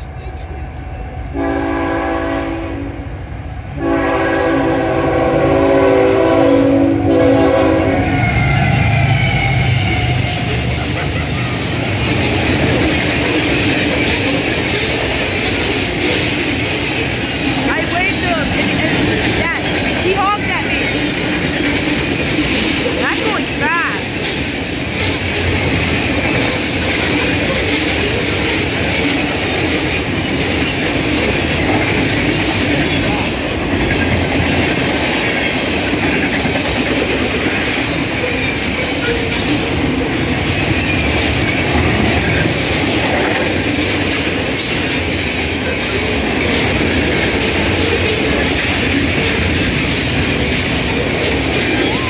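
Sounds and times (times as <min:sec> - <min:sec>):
steel wheels on rails: 0:03.8 - 0:52.0.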